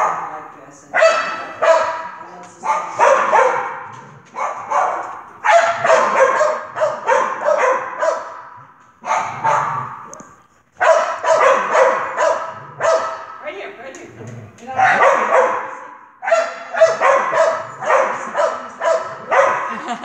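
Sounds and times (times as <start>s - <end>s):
dog barking in a hall: 0.0s - 13.6s, 14.3s - 20.0s.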